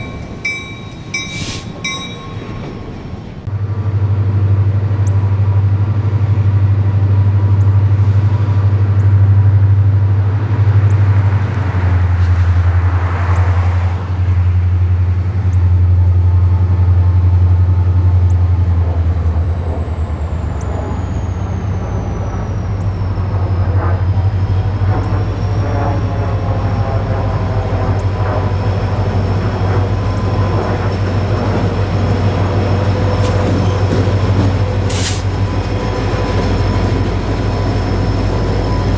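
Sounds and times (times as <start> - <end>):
locomotive low drone: 0.0 - 38.9.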